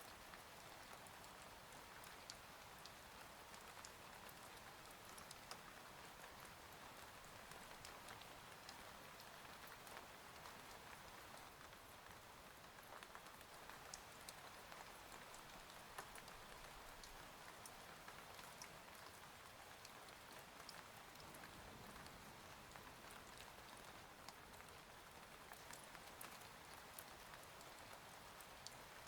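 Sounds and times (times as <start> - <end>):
faint steady rain: 0.0 - 29.0.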